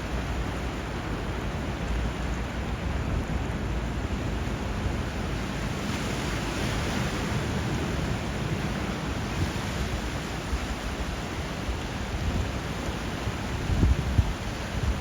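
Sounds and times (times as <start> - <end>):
river water flowing: 0.0 - 15.0
sea waves rushing: 0.0 - 15.0.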